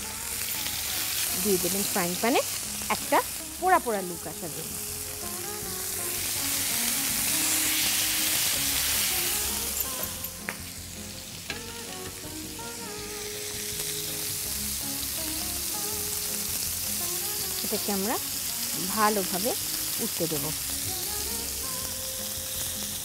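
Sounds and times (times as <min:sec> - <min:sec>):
chicken sizzling in a frying pan: 0:00.0 - 0:23.0.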